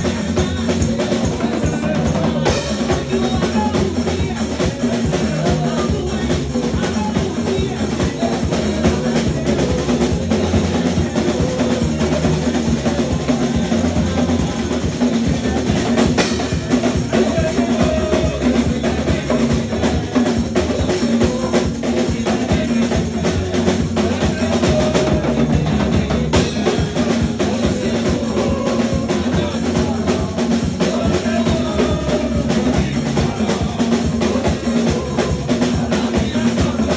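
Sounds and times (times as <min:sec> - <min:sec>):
band music: 0:00.0 - 0:36.9.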